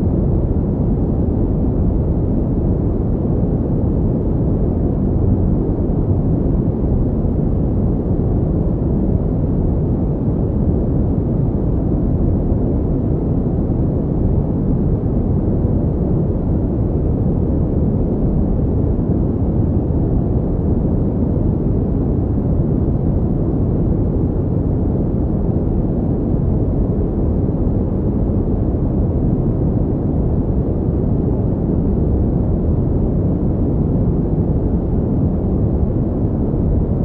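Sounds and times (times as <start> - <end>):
deep muffled pink noise: 0.0 - 37.0.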